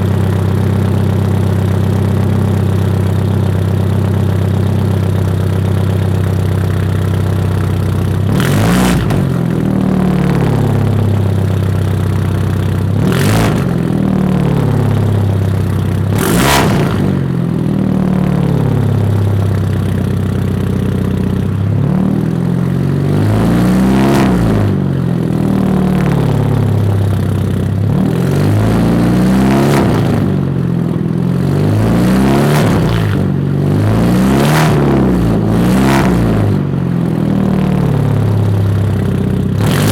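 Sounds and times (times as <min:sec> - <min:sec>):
car engine revving: 0:00.0 - 0:39.9
exhaust cracks: 0:00.0 - 0:39.9.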